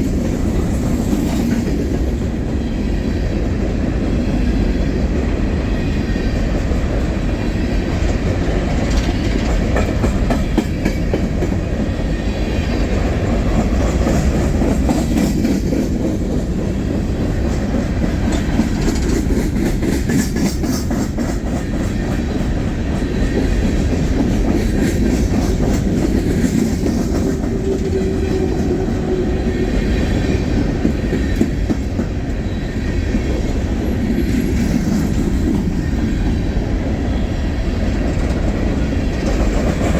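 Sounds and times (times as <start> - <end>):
freight train rumble: 0.0 - 39.9
wheels clicking over rail joints: 6.4 - 36.9, 37.8 - 39.9.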